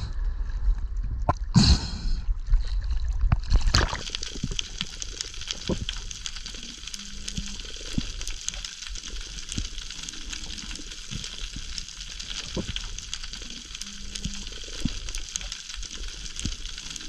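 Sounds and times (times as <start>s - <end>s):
snapping shrimp crackling underwater: 3.0s - 17.0s.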